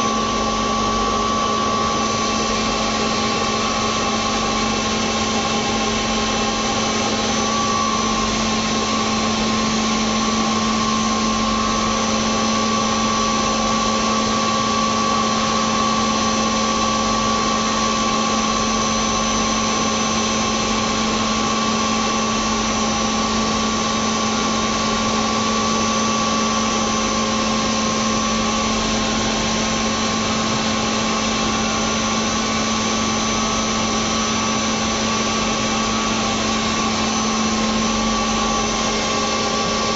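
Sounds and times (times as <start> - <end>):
machine high whine: 0.0 - 39.9
machine low hum: 0.0 - 39.9.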